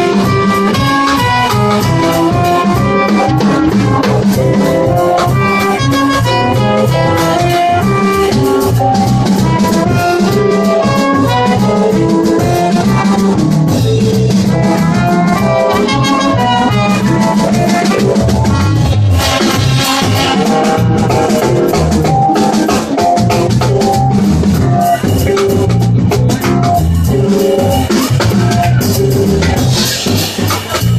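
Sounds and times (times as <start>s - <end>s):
drum kit: 0.0s - 30.9s
electric bass: 0.0s - 30.9s
trombone: 0.0s - 30.9s
trumpet: 0.0s - 30.9s.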